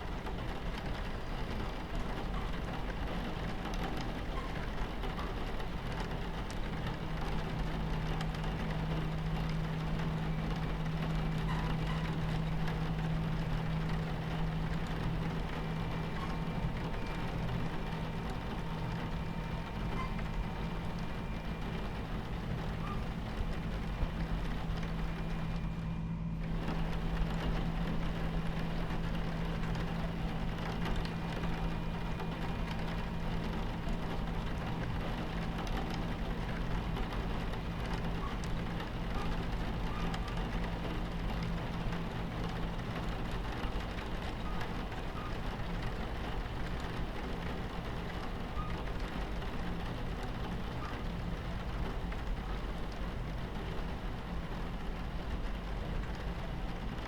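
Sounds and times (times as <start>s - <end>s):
rain on window: 0.0s - 57.0s
train rumbling with hum: 0.0s - 57.0s.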